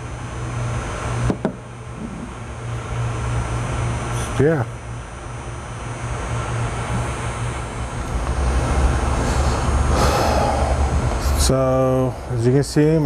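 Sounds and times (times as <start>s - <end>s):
constant hiss: 0.0s - 13.0s
low hum and rumble: 0.0s - 13.0s.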